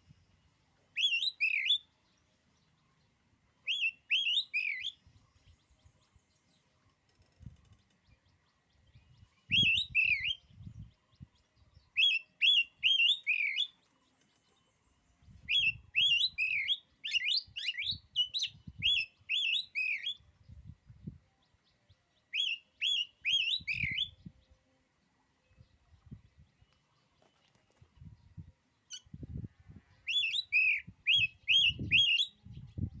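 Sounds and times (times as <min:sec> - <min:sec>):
bird singing whistled notes: 0:00.1 - 0:03.0, 0:03.6 - 0:06.6, 0:07.6 - 0:24.8, 0:28.1 - 0:33.0.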